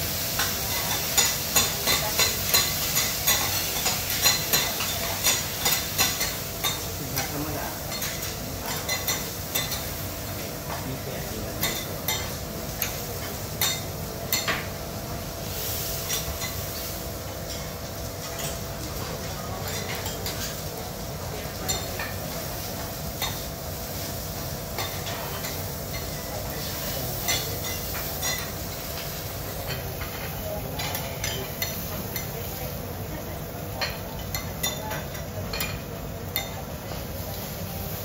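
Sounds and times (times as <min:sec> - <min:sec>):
food sizzling on griddle: 0:00.0 - 0:38.0.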